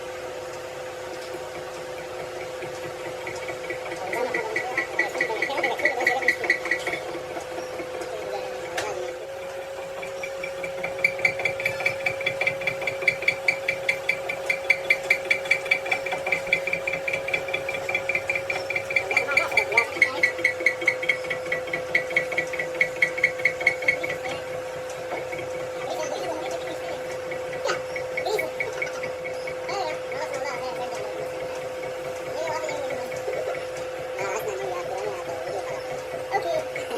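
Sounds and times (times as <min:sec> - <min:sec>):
machine humming: 0:00.0 - 0:36.9
rhythmic metallic ticking: 0:00.0 - 0:36.9.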